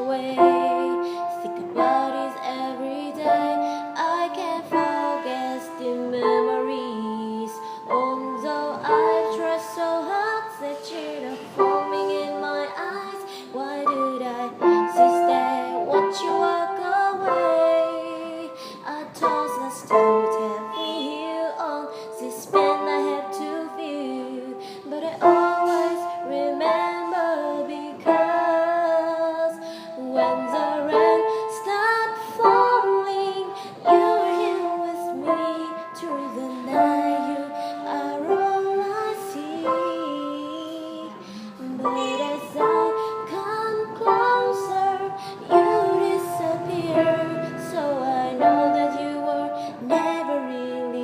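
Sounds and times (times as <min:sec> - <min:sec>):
piano accompaniment: 0:00.0 - 0:51.0
woman singing: 0:00.0 - 0:51.0.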